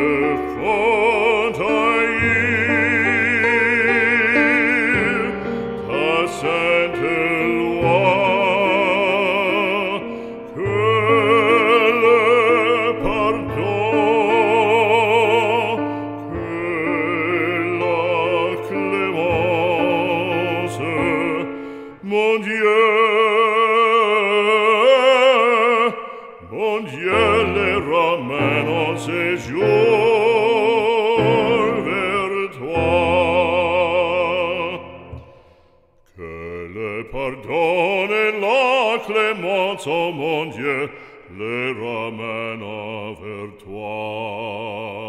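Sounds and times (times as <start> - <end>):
operatic singing with vibrato: 0.0 - 45.0.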